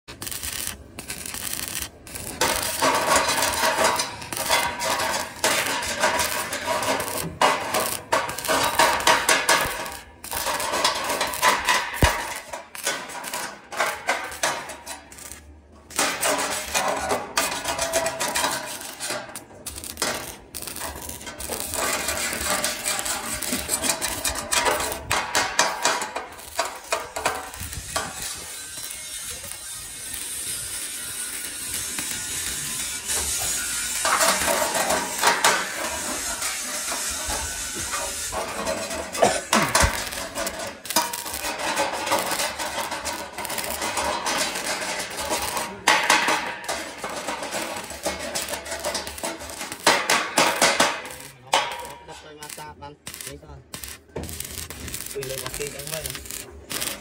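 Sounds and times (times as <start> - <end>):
arc welding crackling: 0.1 - 57.0.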